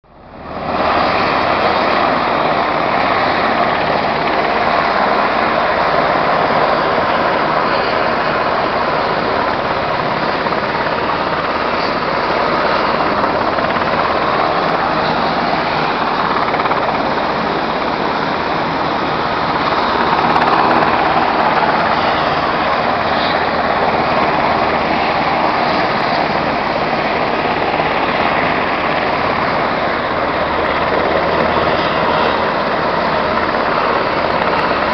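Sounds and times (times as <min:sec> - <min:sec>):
strong wind rushing: 0:00.1 - 0:34.9.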